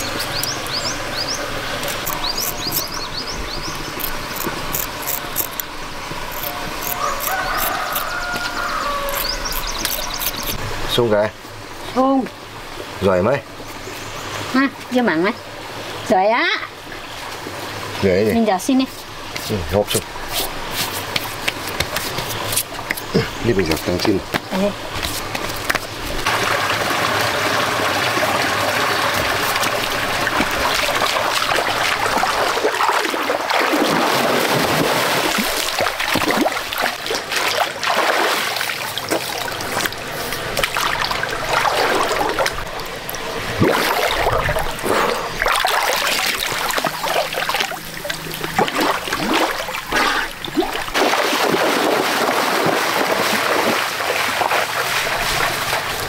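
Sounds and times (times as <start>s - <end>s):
running water trickling and splashing: 0.0s - 56.0s.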